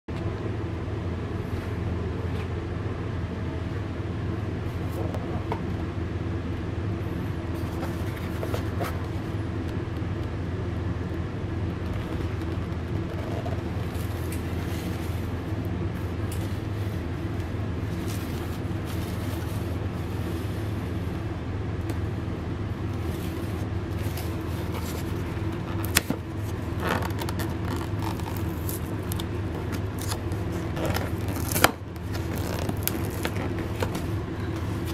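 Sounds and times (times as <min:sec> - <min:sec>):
low mechanical hum: 0:00.1 - 0:34.9.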